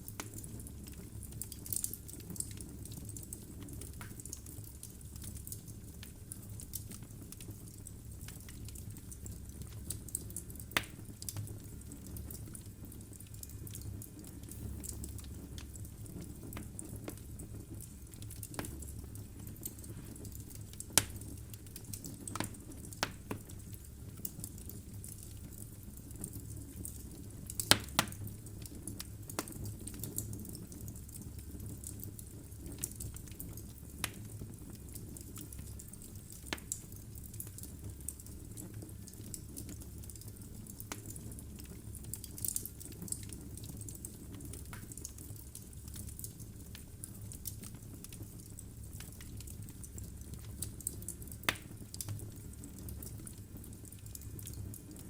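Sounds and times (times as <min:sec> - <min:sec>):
fire flame rumble: 0:00.0 - 0:55.0
firewood crackling and popping: 0:00.0 - 0:55.0.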